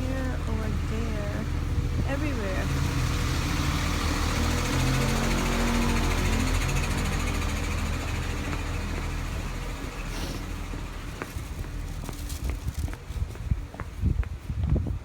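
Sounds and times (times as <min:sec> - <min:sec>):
vehicle engine humming: 0:00.0 - 0:14.5.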